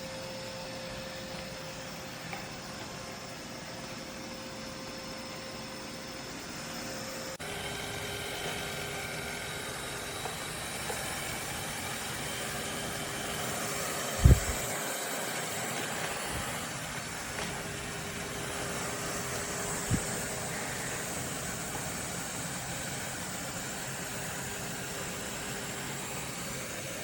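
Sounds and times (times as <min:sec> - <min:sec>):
robot vacuum motor hum: 0:00.0 - 0:27.0.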